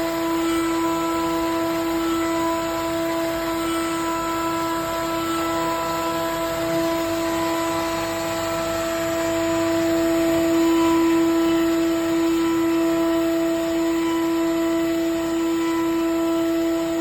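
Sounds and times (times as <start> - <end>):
milling spindle whine: 0.0 - 17.0.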